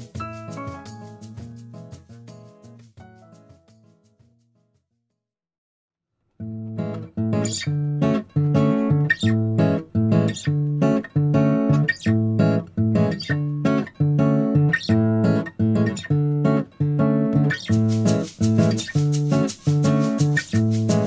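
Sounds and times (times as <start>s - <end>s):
bossa nova acoustic guitar: 0.0s - 3.4s, 6.4s - 21.0s.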